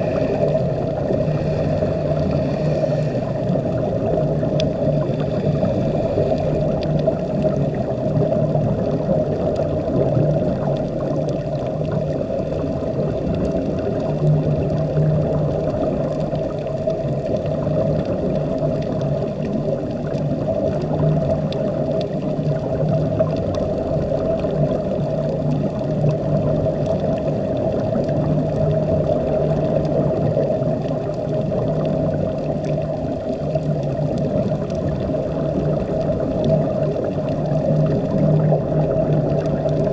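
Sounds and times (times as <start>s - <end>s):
low machinery hum: 0.0s - 39.9s
muffled underwater rushing: 0.0s - 39.9s.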